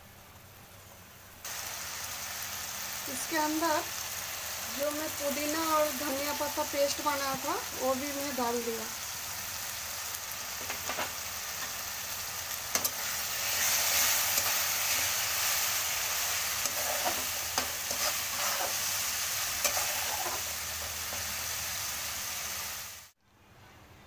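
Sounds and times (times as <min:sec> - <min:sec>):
paste sizzling in oil: 0:01.4 - 0:23.2.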